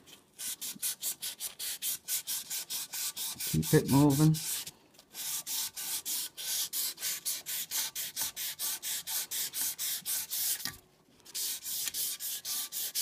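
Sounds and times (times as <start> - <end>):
wet sandpaper rubbing on metal: 0.4 - 10.6, 11.4 - 13.0.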